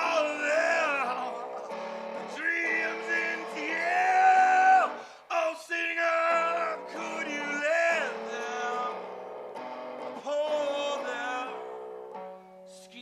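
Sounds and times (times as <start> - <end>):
man singing: 0.0 - 9.2, 10.1 - 11.8, 12.7 - 13.0
guitar: 0.0 - 13.0.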